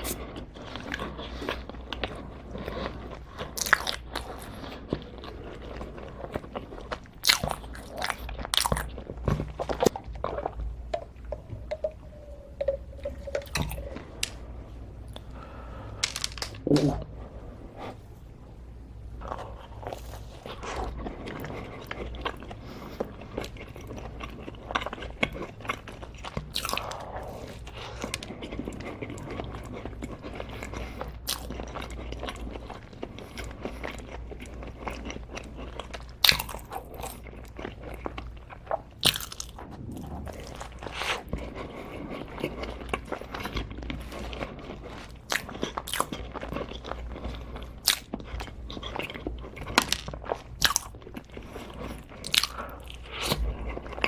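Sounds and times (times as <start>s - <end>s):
person chewing crunchy food: 0.0s - 18.0s, 19.2s - 54.0s.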